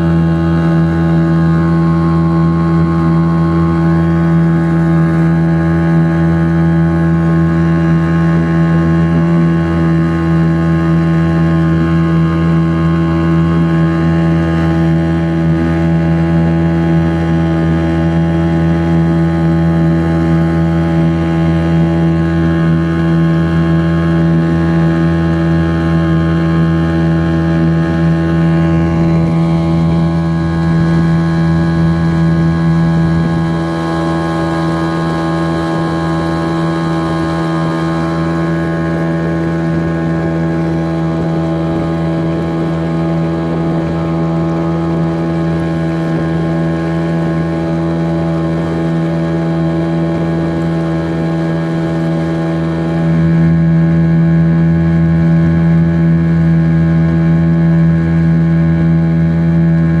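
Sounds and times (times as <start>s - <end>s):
outboard motor droning: 0.0s - 60.0s.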